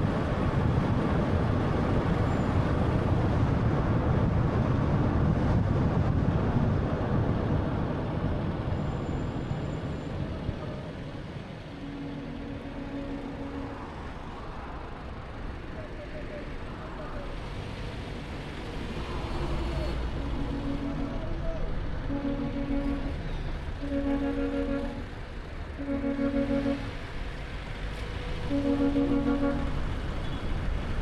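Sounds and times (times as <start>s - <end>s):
road and tyre noise: 0.0s - 31.0s.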